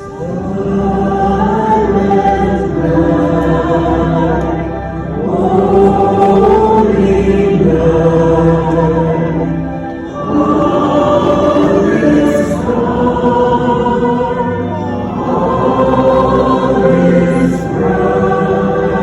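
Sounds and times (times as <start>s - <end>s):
concert band playing christmas music: 0.0s - 19.0s
crowd singing along: 0.0s - 19.0s.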